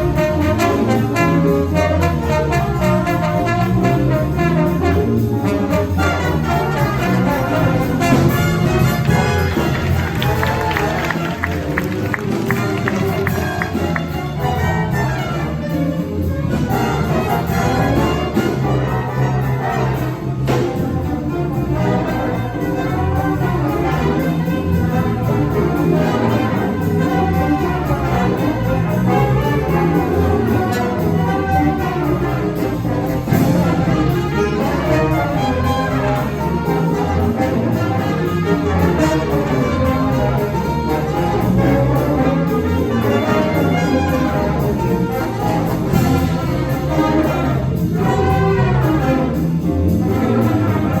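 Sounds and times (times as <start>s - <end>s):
jazz big band playing: 0.0s - 51.0s
trumpets and trombones: 0.0s - 51.0s.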